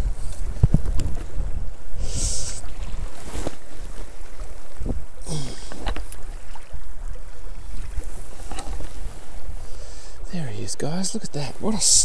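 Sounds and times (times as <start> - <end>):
wind buffeting microphone: 0.0 - 10.4
small river flowing: 0.0 - 12.0.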